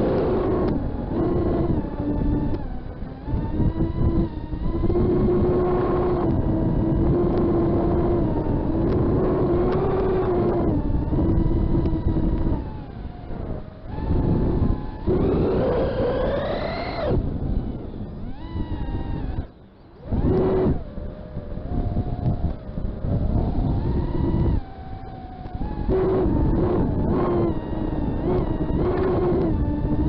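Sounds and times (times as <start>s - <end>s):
drone motors whining: 0.0s - 30.0s.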